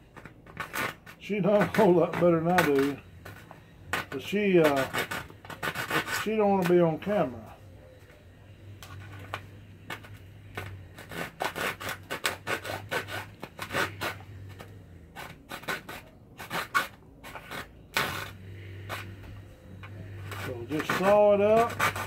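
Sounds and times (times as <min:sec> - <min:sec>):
hand saw cutting gourd: 0:00.6 - 0:07.2, 0:09.9 - 0:19.2, 0:19.9 - 0:22.0.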